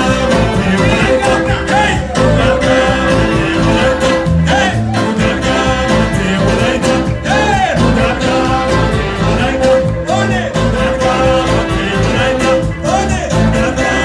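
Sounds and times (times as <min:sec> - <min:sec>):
live band dance music: 0:00.0 - 0:14.0
person singing: 0:00.0 - 0:14.0.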